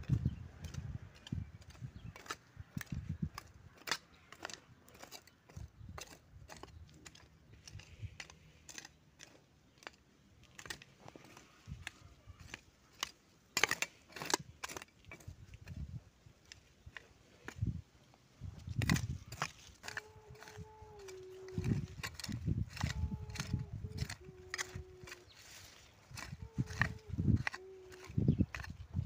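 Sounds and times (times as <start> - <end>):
hand hoe chopping soil: 0.6 - 15.8, 18.7 - 29.0.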